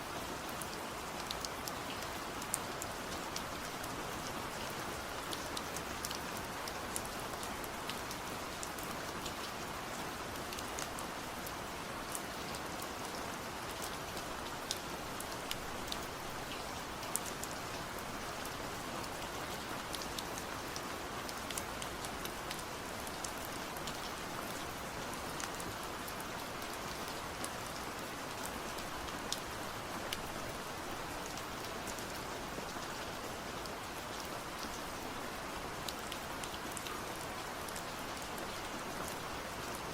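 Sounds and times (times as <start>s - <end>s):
steady rain hiss: 0.0s - 39.9s
raindrops ticking on surface: 0.4s - 39.9s.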